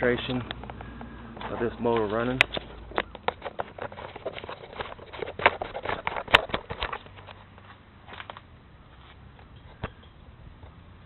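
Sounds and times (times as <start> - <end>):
footsteps: 0.1 - 9.2.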